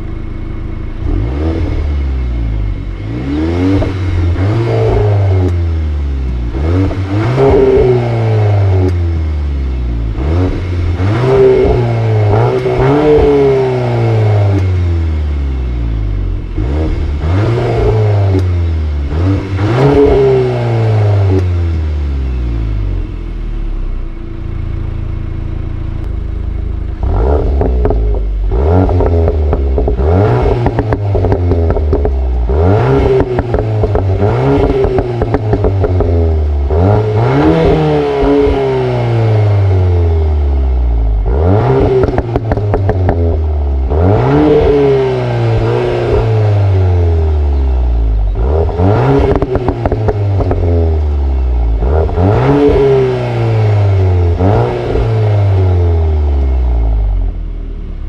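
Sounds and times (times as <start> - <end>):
exhaust cracks: 0.0 - 21.9, 22.6 - 58.0
car engine idling: 0.0 - 58.0
car engine revving: 0.0 - 58.0.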